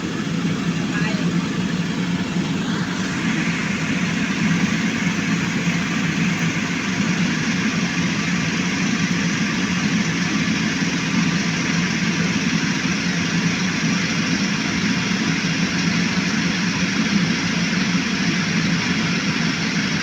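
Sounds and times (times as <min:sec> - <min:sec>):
machine engine running: 0:00.0 - 0:20.0.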